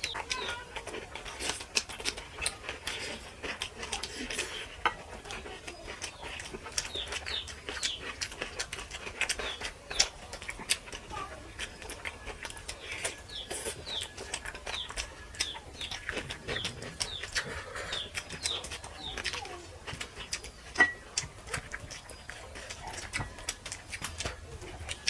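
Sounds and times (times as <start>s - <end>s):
people eating by hand: 0.0s - 25.0s.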